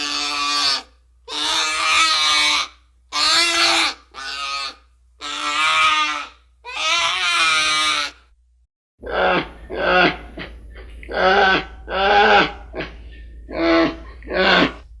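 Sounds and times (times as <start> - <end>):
pitched creature calls: 0.0 - 8.3, 9.0 - 14.9.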